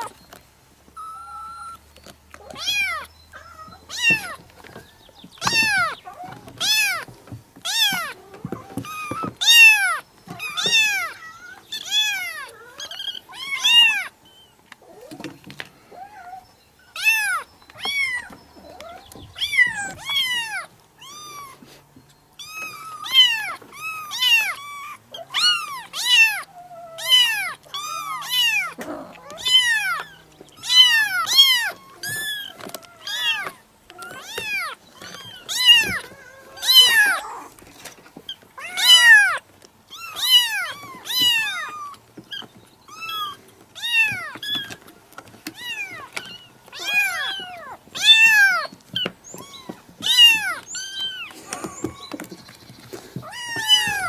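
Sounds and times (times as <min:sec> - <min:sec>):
kittens meowing: 0:00.9 - 0:54.0.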